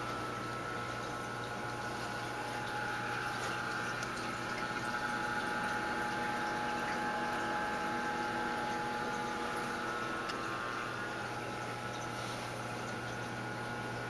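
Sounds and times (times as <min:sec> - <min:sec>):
aquarium filter hum: 0:00.0 - 0:14.0
water trickling and bubbling: 0:00.0 - 0:14.0.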